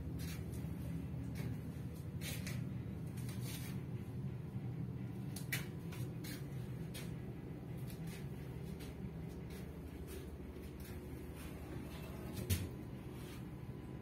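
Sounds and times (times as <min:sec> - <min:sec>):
faint rustles and clicks: 0:00.0 - 0:04.1, 0:05.2 - 0:13.6
low machinery hum: 0:00.0 - 0:14.0.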